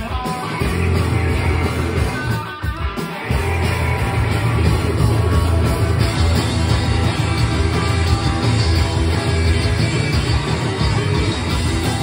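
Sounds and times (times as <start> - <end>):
punk rock band playing live: 0.0 - 12.0.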